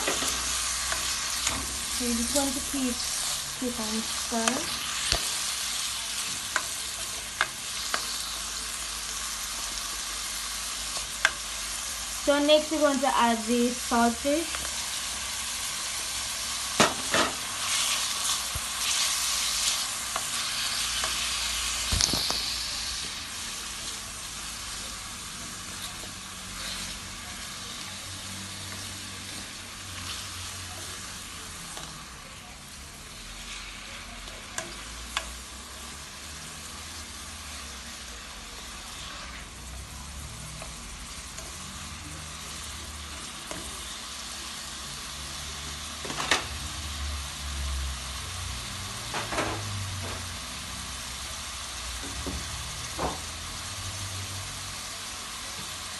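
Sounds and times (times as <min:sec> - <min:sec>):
food sizzling in a frying pan: 0:00.0 - 0:55.9.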